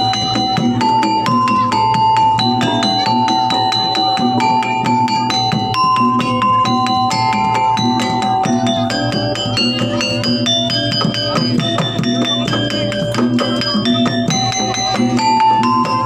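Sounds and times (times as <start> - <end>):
drums: 0.0 - 16.0.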